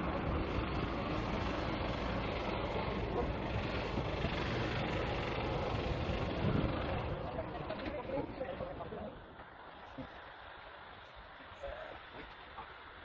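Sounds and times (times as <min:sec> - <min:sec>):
aircraft engine roar: 0:00.0 - 0:13.0.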